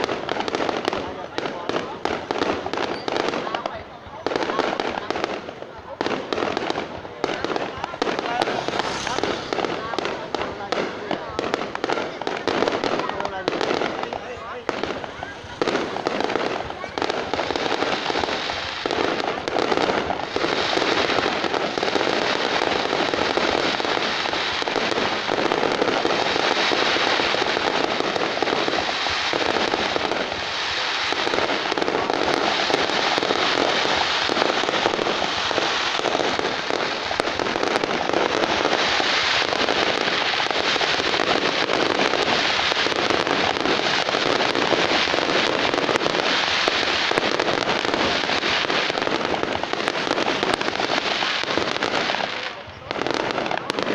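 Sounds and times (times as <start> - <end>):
fireworks crackling pops: 0.0 - 53.9.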